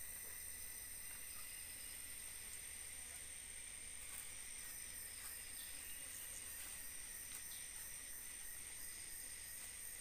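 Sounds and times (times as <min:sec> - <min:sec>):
high-pitched insect drone: 0:00.0 - 0:10.0
steady hiss: 0:00.0 - 0:10.0.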